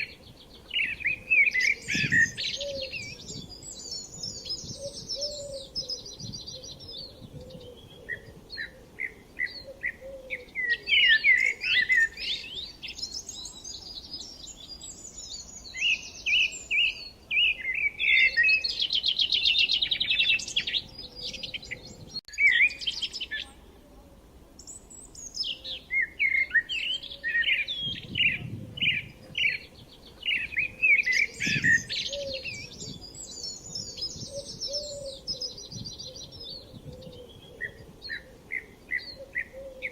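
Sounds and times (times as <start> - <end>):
birds chirping and singing: 0.0 - 23.6, 24.6 - 39.9.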